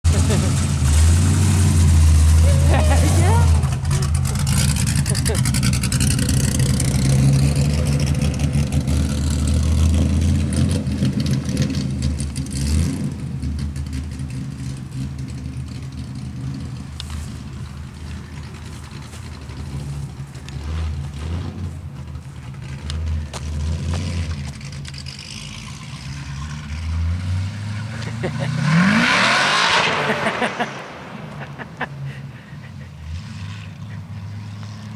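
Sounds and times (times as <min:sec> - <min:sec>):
kart engine with open exhaust: 0:00.0 - 0:34.9.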